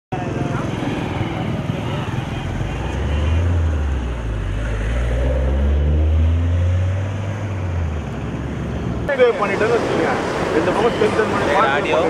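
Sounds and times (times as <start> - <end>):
outdoor noise: 0.1 - 12.0.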